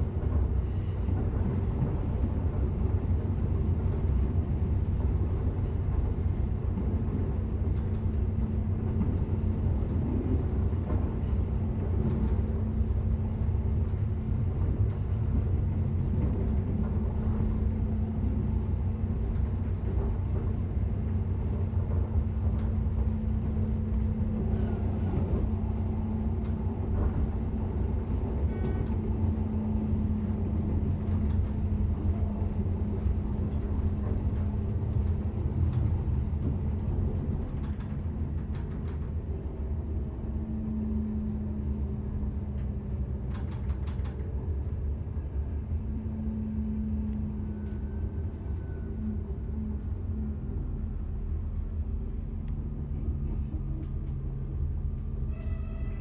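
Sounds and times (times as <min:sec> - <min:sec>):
train engine drone: 0:00.0 - 0:56.0
train wheels rumbling on rail: 0:00.0 - 0:56.0.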